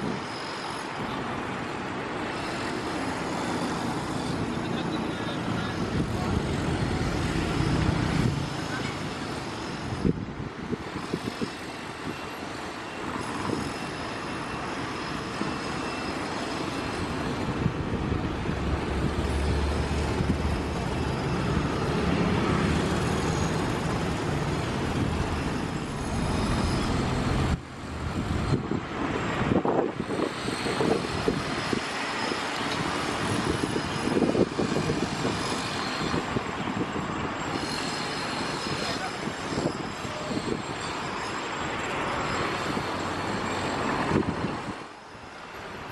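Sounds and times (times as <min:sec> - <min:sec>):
passing cars and trucks: 0:00.0 - 0:45.9.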